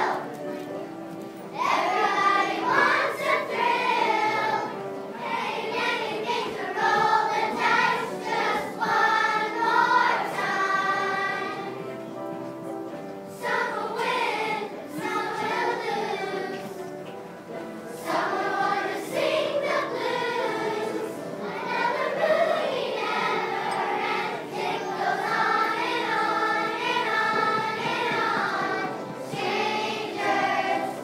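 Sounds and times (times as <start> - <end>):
children's choir singing: 0.0 - 31.0.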